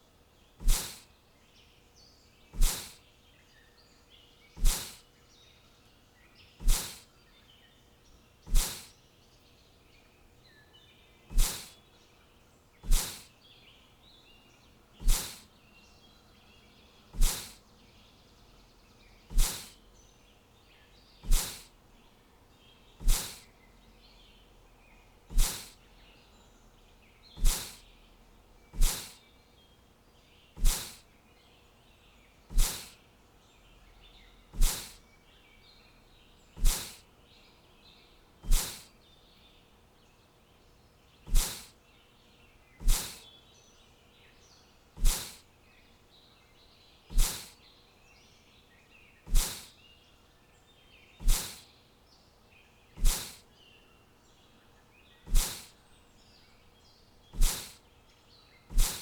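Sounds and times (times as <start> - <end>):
faint bird chirping: 0.0 - 59.0.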